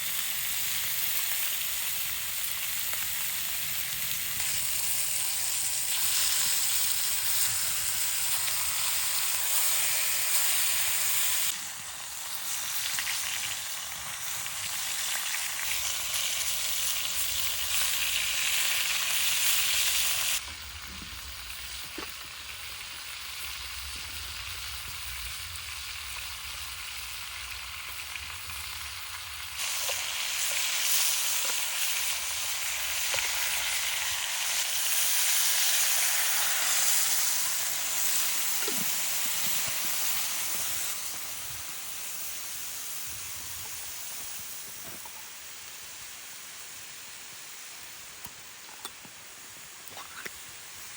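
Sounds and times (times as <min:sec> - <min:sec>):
food sizzling and frying: 0:00.0 - 0:50.9.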